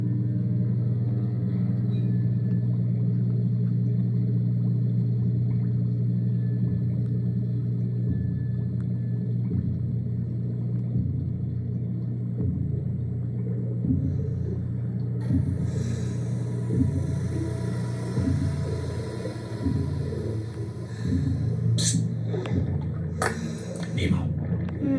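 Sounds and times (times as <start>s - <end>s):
low pulsing rumbling hum: 0.0s - 24.9s.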